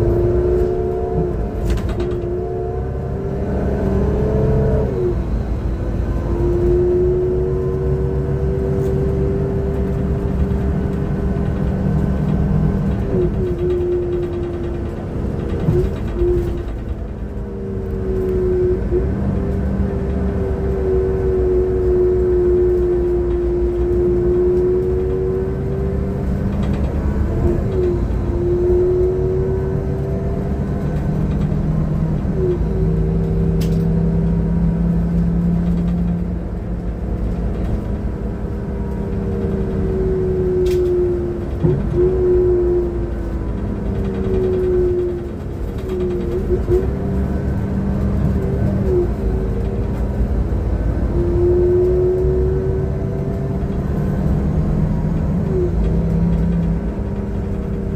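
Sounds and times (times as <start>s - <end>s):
bus engine rumbling and whining: 0.0s - 57.9s.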